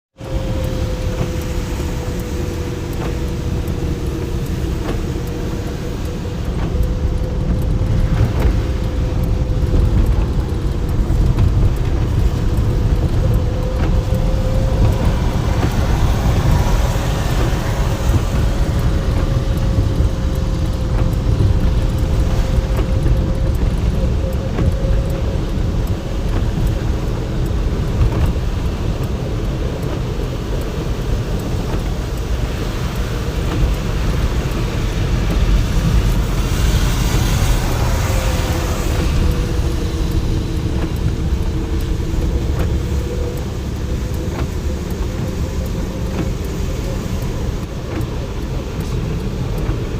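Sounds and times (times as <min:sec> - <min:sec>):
car driving at speed: 0:00.1 - 0:49.9.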